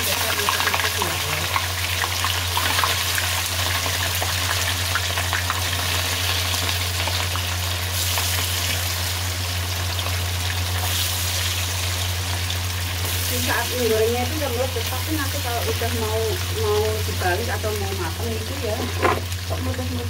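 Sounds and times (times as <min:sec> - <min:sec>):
oil sizzling in a pan: 0:00.0 - 0:20.0.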